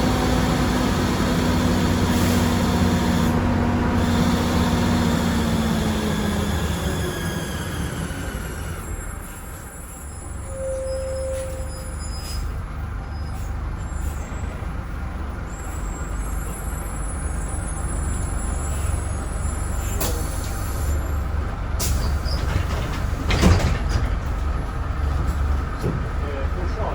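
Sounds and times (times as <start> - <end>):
bus diesel engine rumbling: 0.0 - 26.9.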